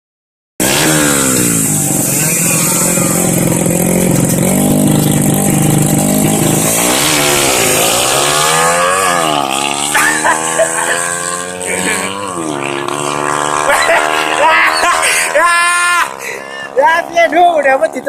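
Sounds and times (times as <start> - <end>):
motorcycle engine idling and revving: 0.6 - 18.0.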